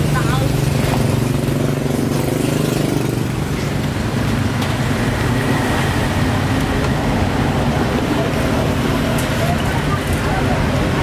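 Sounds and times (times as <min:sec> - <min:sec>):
engine running close by: 0:00.0 - 0:11.0
road traffic: 0:00.0 - 0:11.0.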